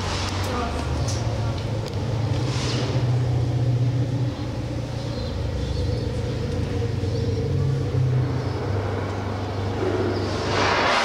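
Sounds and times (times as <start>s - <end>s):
elephants low rumble: 0.0s - 11.0s.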